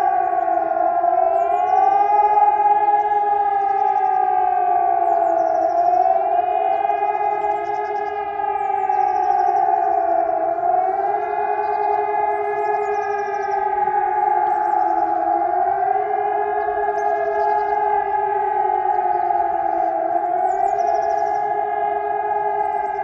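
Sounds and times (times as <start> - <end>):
rising and falling sirens: 0.0 - 23.0.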